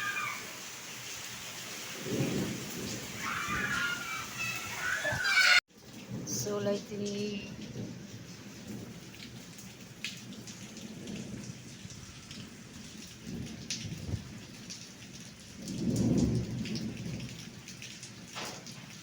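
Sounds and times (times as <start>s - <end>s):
heavy rain falling: 0.0s - 19.0s
raindrops tapping close by: 1.0s - 19.0s
thunder rumble: 1.9s - 19.0s.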